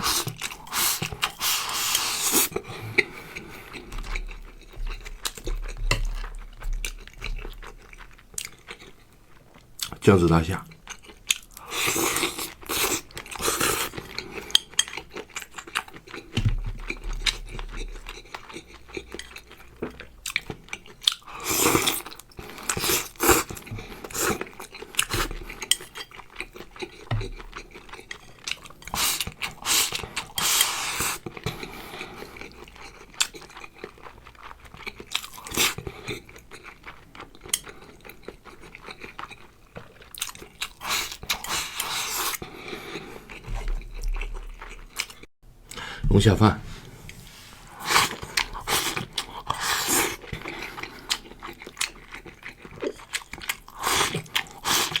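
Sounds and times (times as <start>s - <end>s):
person chewing and crunching: 0.0s - 10.0s, 10.6s - 45.9s, 47.1s - 55.0s.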